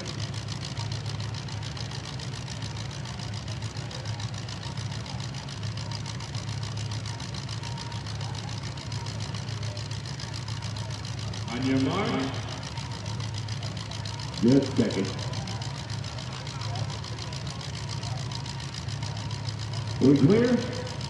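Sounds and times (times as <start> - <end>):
car engines idling: 0.0 - 21.0.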